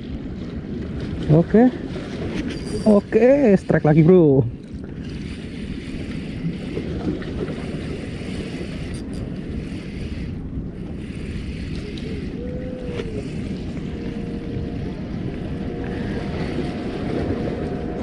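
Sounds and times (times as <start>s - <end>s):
sea washing at shore: 0.0s - 18.0s
wind buffeting microphone: 0.0s - 18.0s.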